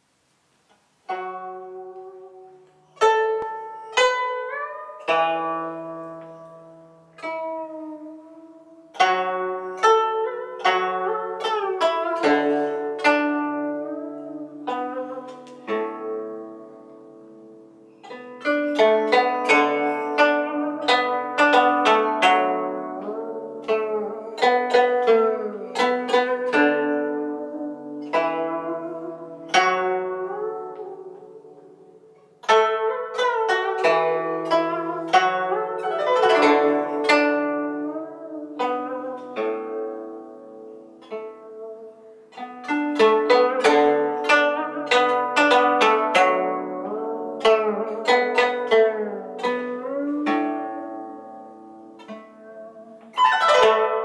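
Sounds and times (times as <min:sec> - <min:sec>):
plucked zither notes: 0:01.1 - 0:54.0.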